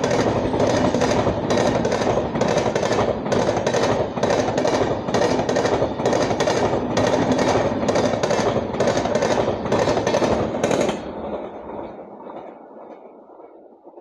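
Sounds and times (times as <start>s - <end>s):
train rumble: 0.0s - 14.0s
train wheels clattering over joints: 0.0s - 14.0s.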